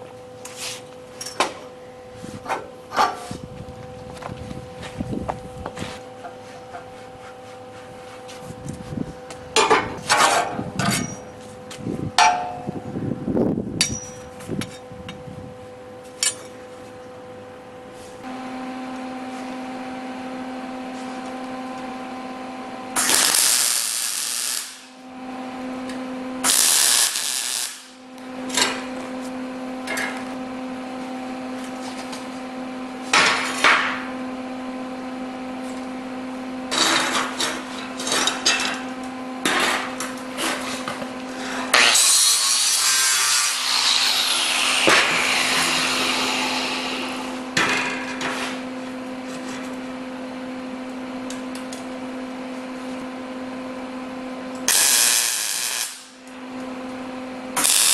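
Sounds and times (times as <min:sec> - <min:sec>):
steady machine hum: 0:00.0 - 0:57.9.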